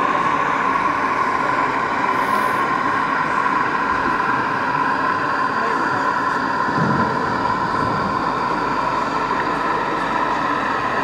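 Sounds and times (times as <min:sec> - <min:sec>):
model train humming: 0:00.0 - 0:11.0.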